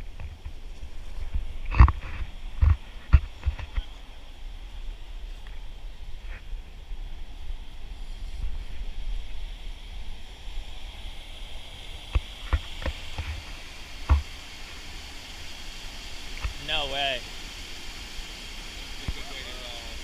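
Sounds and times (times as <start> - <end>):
rushing water and surf: 0.0 - 20.0
wind rumbling on microphone: 0.0 - 20.0.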